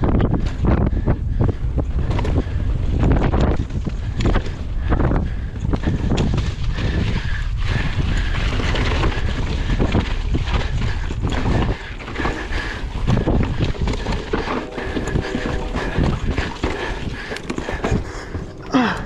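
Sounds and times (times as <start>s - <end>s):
bike rattling and knocking: 0.0s - 14.7s, 15.8s - 19.0s
wind rushing over microphone: 0.0s - 19.0s.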